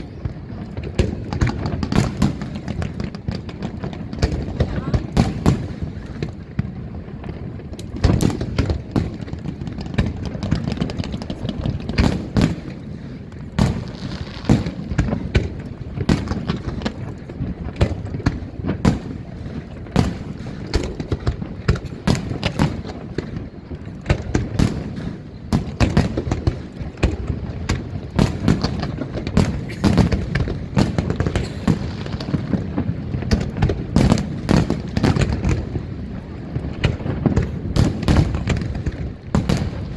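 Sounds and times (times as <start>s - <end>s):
firework bursts and crackling: 0.0s - 39.9s.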